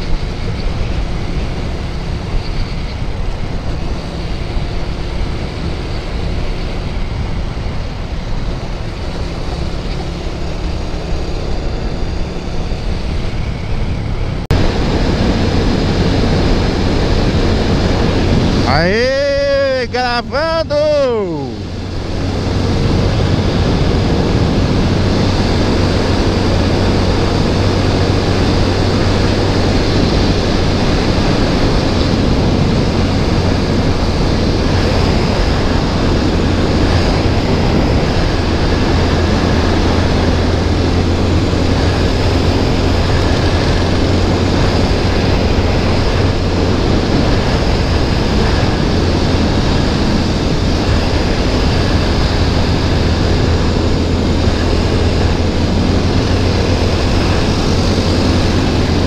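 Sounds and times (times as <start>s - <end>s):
motorcycle engine cruising: 0.0s - 20.2s, 21.5s - 59.0s
wind rushing on microphone: 0.0s - 59.0s.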